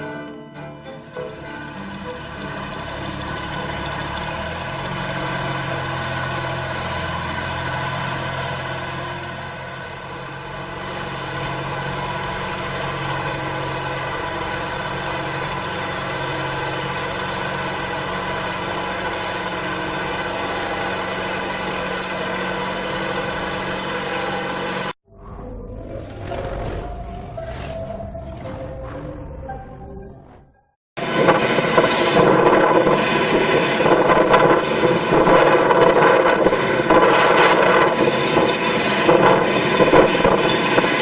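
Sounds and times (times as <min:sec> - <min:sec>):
farm machinery engine running: 0:00.8 - 0:25.0, 0:31.0 - 0:41.0
low hum: 0:01.0 - 0:41.0.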